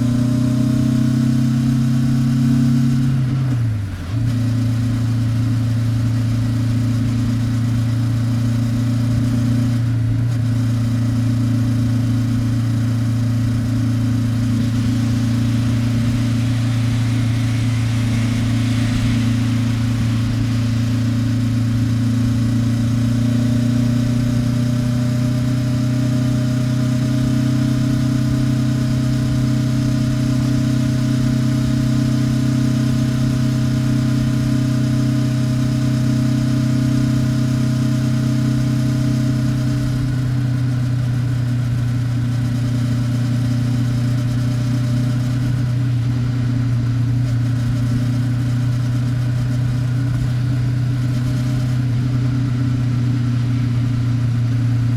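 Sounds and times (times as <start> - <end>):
motorcycle exhaust at steady speed: 0.0 - 54.9.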